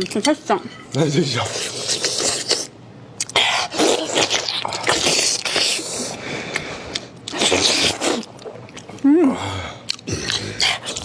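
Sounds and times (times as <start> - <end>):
person chewing: 0.9 - 11.0.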